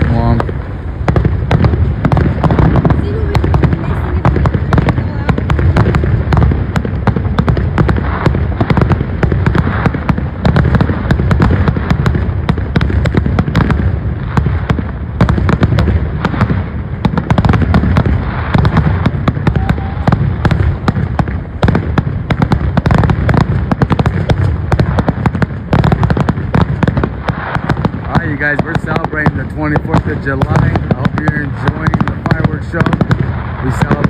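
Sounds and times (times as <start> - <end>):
firework shells bursting: 0.0 - 34.0
low rumble: 0.0 - 34.0.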